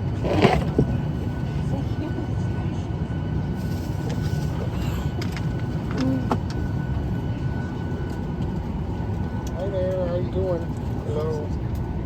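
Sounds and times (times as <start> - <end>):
air system rumble: 0.0 - 12.0.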